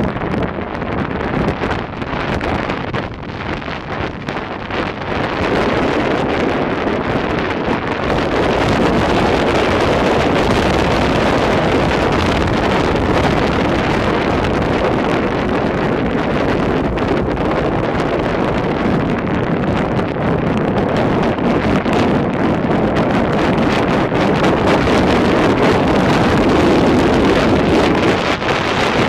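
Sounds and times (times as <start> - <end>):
heavy wind noise on microphone: 0.0 - 29.0.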